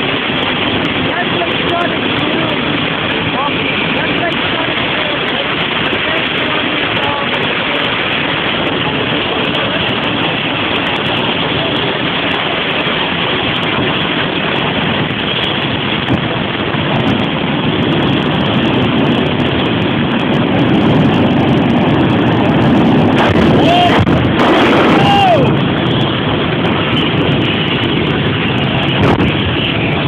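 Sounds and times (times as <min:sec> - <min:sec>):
jet engine roaring: 0:00.0 - 0:30.0.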